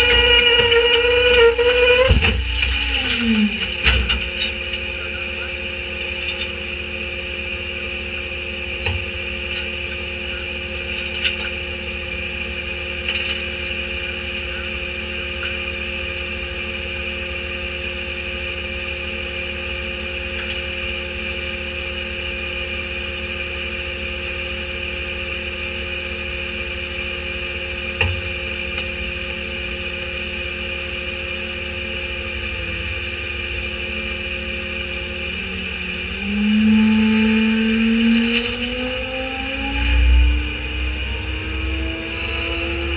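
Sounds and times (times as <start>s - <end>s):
garbage truck idling: 0.0s - 39.6s.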